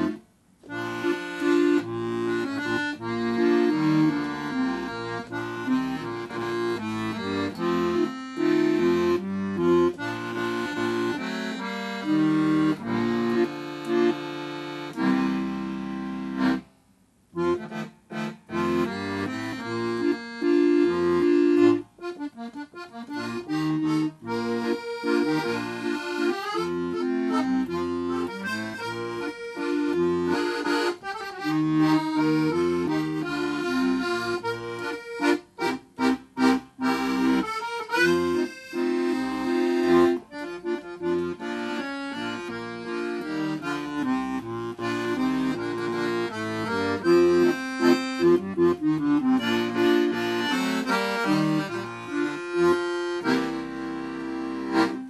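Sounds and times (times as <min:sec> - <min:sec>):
piano accordion playing: 0:00.0 - 0:16.7, 0:17.4 - 0:55.0.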